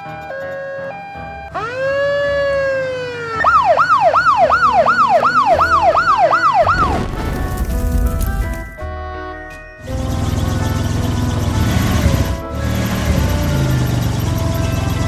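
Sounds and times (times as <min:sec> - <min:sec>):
cartoon police siren wailing: 0:00.0 - 0:07.3, 0:09.9 - 0:15.0.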